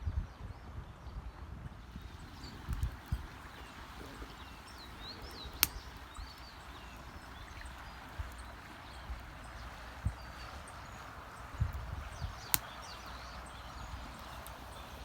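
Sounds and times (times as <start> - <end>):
small birds chirping: 1.9 - 15.0.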